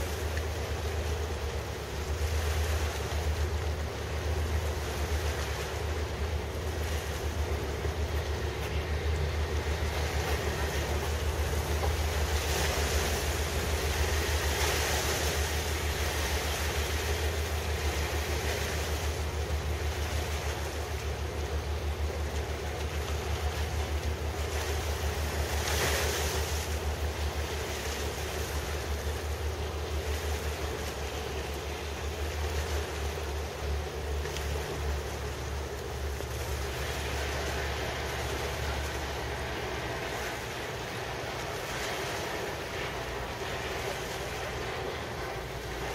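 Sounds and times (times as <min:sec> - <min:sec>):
river water washing: 0:00.0 - 0:45.9.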